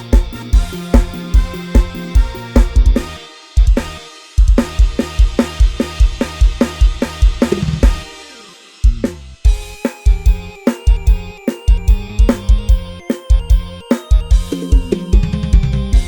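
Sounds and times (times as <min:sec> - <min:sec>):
sampled bass line: 0:00.0 - 0:04.0, 0:04.6 - 0:08.1, 0:08.9 - 0:16.0
programmed drum kit: 0:00.0 - 0:16.0.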